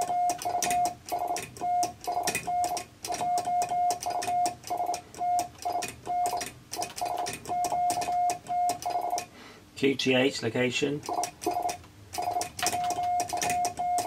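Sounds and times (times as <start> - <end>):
morse code tone: 0.0 - 6.4, 7.0 - 9.3, 11.1 - 14.0.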